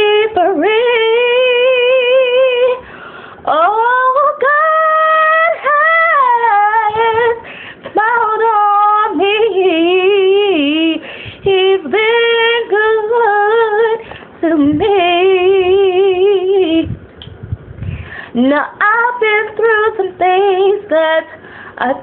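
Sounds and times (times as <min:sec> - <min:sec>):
woman singing gospel unaccompanied: 0:00.0 - 0:17.1, 0:18.3 - 0:22.0.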